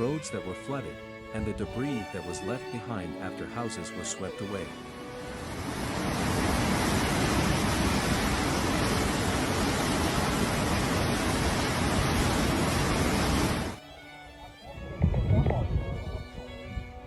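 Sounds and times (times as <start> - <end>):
rushing floodwater roar: 0.0 - 13.8.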